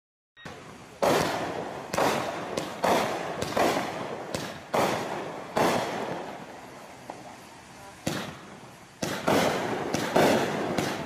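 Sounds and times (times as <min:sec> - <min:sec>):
fireworks cake firing bangs: 0:00.4 - 0:11.0.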